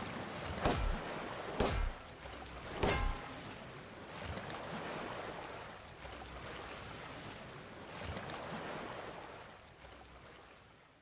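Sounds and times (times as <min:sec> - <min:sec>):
ocean waves washing in: 0:00.0 - 0:10.7.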